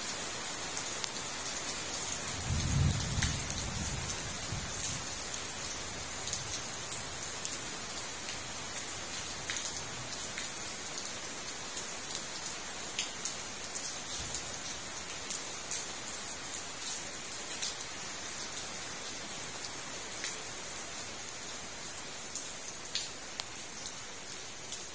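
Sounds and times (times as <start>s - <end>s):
rain hissing on pond: 0.0s - 24.9s.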